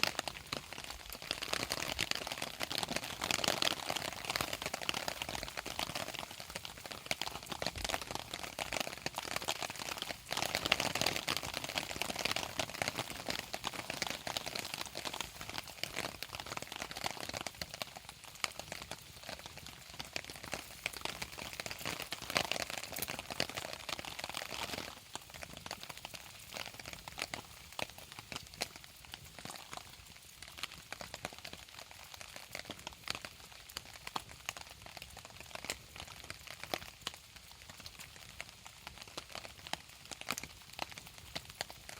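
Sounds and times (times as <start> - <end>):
campfire crackling and popping: 0.0 - 41.9
rain falling: 0.0 - 41.9.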